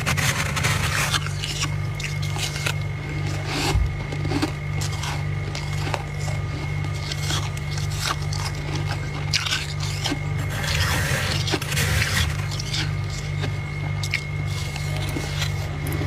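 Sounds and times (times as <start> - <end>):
crunching frost: 0.0 - 16.0.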